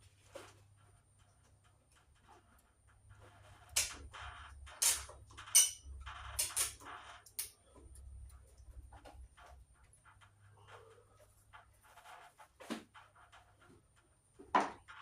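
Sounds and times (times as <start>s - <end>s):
rustling of wires: 0.0s - 15.0s.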